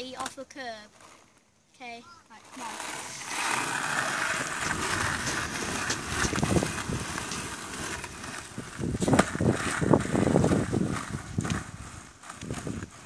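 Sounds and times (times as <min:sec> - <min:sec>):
skateboard wheels rolling on pavement: 0:00.0 - 0:13.0
skateboard clattering on ground: 0:02.5 - 0:13.0.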